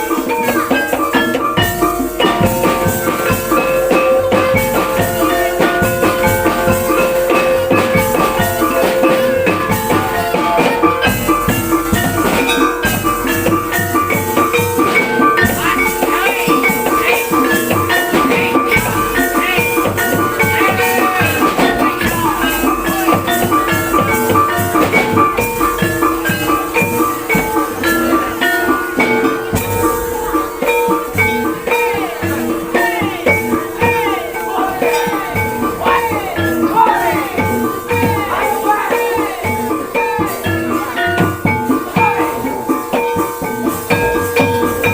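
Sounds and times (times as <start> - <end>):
drums: 0.0 - 44.9
metallophones ringing: 0.0 - 44.9.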